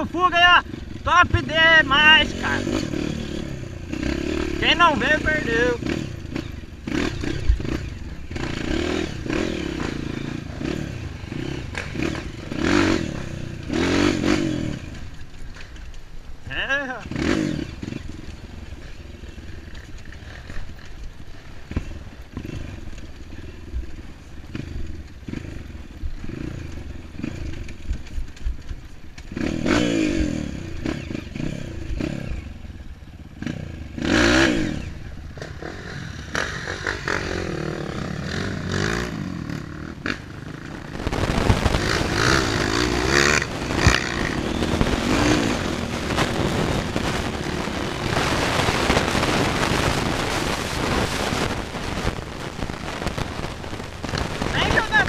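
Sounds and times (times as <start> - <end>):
dirt bike engine revving: 0.0 - 55.0
other trail bikes running: 0.0 - 55.0.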